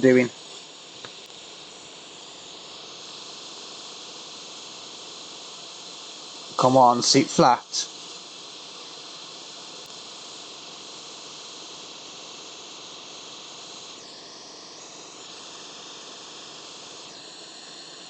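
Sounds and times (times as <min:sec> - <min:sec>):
hot air station hissing: 0:00.0 - 0:18.0.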